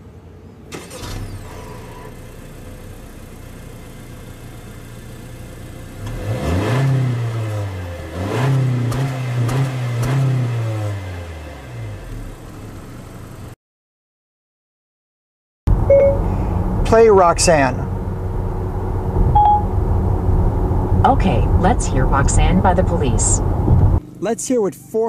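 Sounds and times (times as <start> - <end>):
car engine idling and revving: 0.0 - 13.6, 15.7 - 24.3.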